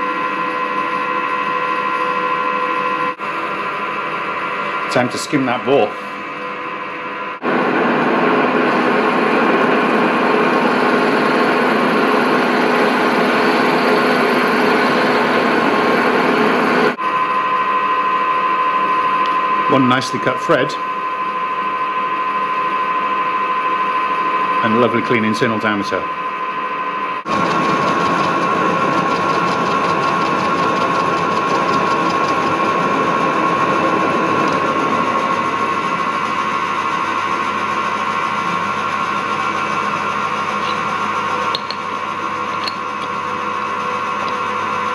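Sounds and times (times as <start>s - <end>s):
high whine: 0.0s - 44.9s
milling machine hum: 0.0s - 44.9s.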